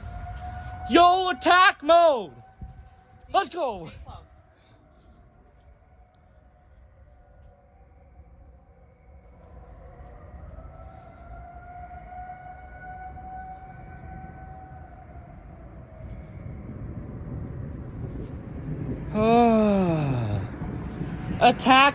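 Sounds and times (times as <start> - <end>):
crickets chirping: 0.0 - 21.9
wavering outdoor warning sirens: 0.0 - 21.9.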